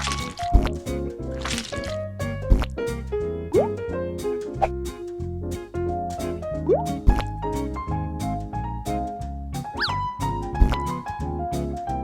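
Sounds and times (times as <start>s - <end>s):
bouncy children's music: 0.0s - 11.8s.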